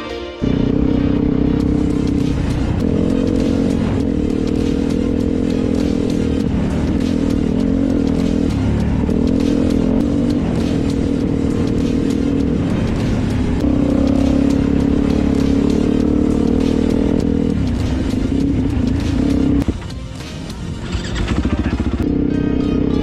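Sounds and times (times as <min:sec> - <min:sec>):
vehicle engine running: 0:00.4 - 0:23.0.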